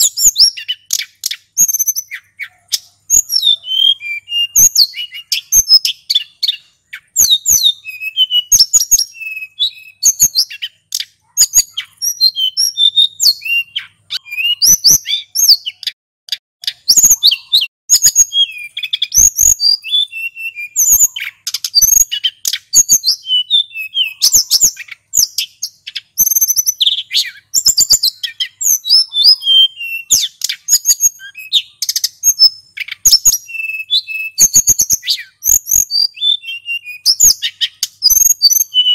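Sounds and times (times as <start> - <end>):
bird twittering and whistling: 0.0 - 38.9.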